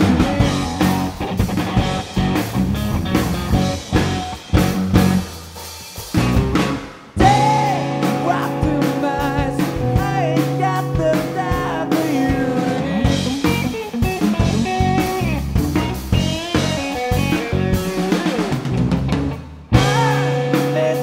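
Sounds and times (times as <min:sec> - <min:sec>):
bending guitar lead melody: 0:00.0 - 0:21.0
blues-rock band playing: 0:00.0 - 0:21.0
drums: 0:00.0 - 0:21.0.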